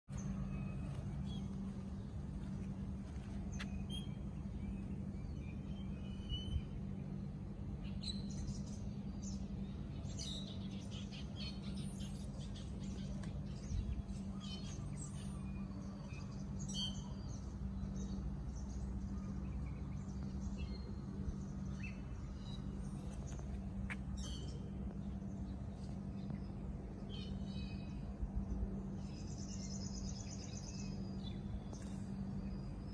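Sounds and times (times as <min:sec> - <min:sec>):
steady low hum: 0:00.0 - 0:32.9
birds chirping: 0:00.1 - 0:32.9.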